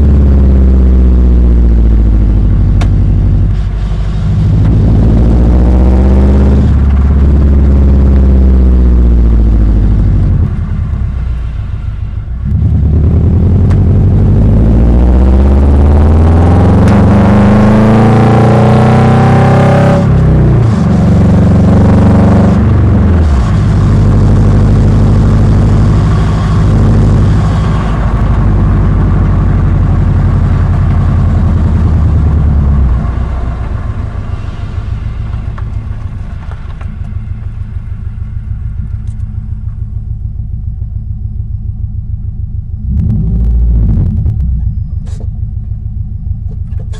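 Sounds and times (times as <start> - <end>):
car engine rumbling: 0.0 - 46.9.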